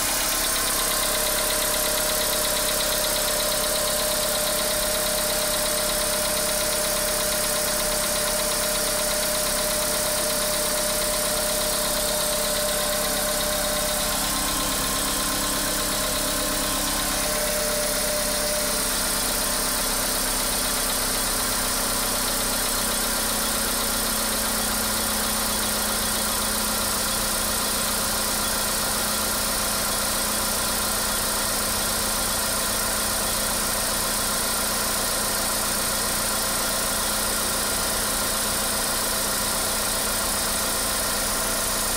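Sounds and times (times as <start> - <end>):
car engine idling with knock: 0.0 - 41.9.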